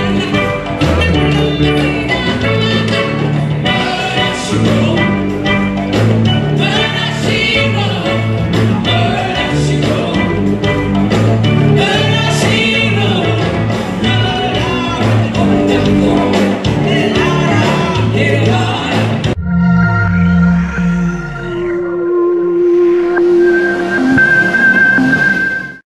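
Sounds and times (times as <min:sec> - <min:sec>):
amplified backing music with bass: 0:00.0 - 0:25.8.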